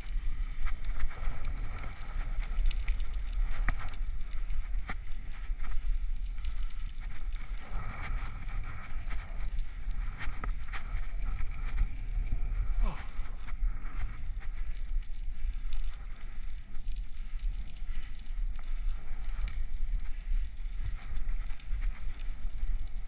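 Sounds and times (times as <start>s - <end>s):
bicycle tyres on wet asphalt: 0.0s - 23.0s
wind buffeting microphone: 0.0s - 23.0s.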